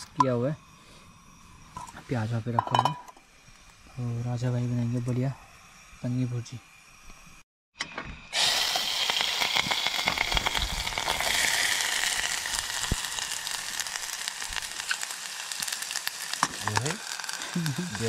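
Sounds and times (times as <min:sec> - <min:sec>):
food sizzling in a pan: 0:00.0 - 0:07.4, 0:08.3 - 0:18.0.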